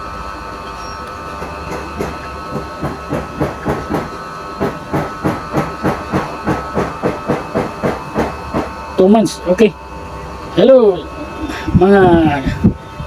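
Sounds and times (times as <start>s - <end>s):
electric fan pulsing hum: 0.0s - 13.0s.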